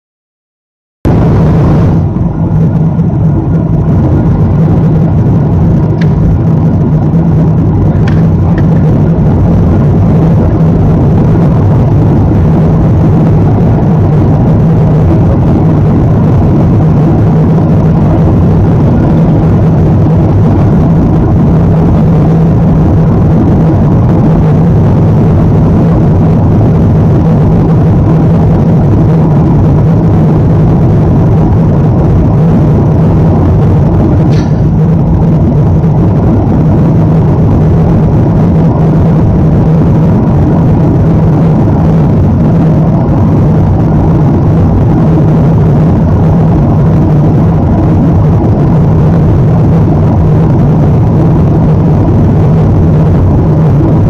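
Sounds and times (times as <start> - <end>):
jet cabin engine rumble: 1.0 - 54.0.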